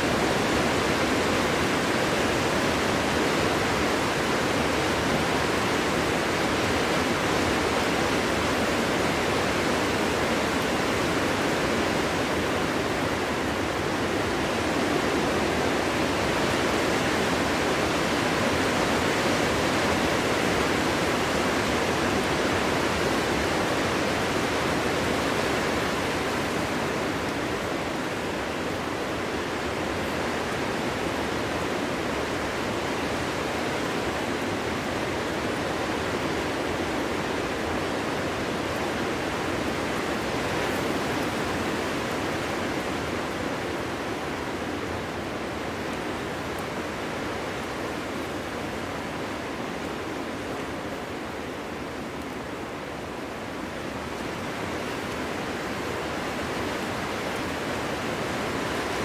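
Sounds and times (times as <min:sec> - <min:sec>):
wind blowing through forest: 0:00.0 - 0:59.0.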